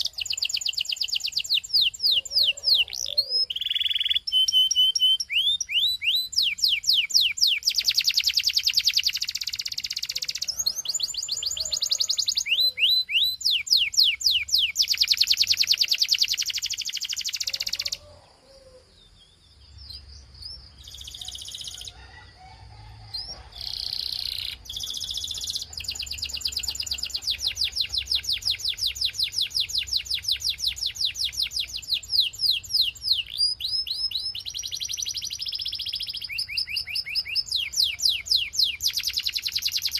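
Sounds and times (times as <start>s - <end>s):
canary singing rapid trills: 0.0s - 18.2s, 19.8s - 22.0s, 23.1s - 39.9s.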